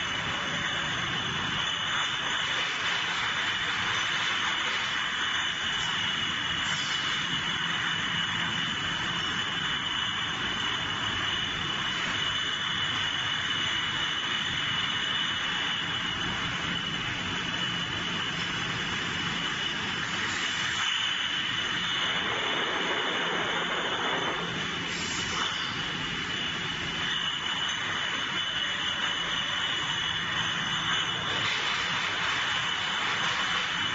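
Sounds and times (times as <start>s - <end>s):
factory machinery and conveyors running: 0.0s - 33.9s
high-pitched whine: 0.0s - 33.9s.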